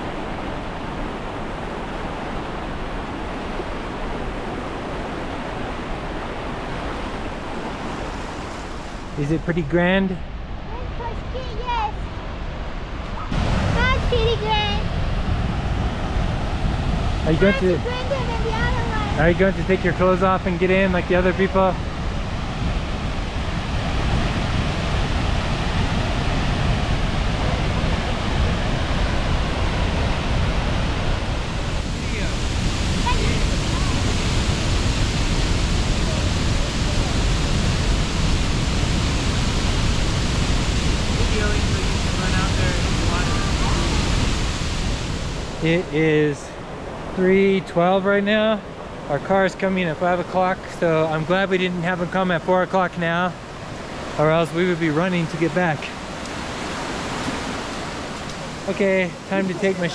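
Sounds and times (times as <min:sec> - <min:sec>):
waterfall rushing: 0:00.0 - 0:09.8, 0:10.6 - 0:59.9.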